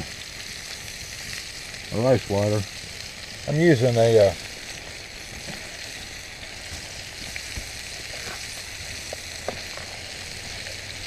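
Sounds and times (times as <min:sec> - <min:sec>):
sausage sizzling in a pan: 0:00.0 - 0:11.0.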